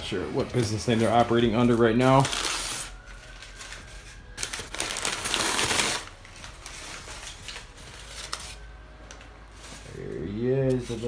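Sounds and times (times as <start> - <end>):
paper packing crinkling: 0.5 - 11.0.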